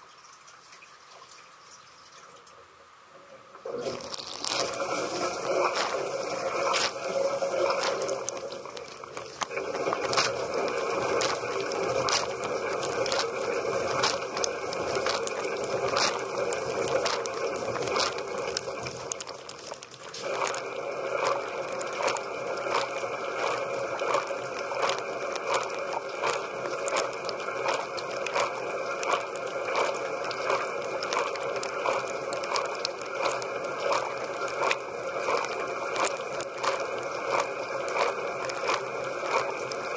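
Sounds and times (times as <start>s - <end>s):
dishwasher water jets spraying: 3.6s - 39.9s.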